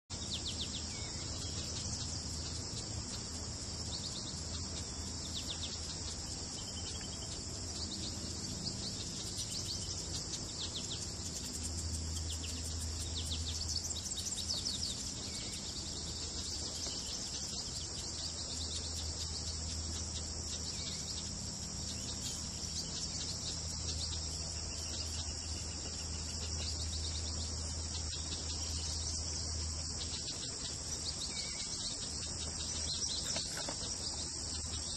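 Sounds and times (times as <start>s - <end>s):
faint low hum: 0.1s - 34.9s
high-pitched insect chorus: 0.1s - 34.9s.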